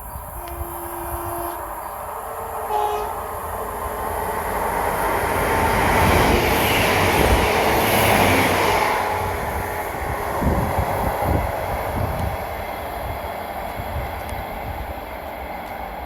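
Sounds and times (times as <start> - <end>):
train passing at speed: 0.0 - 16.0.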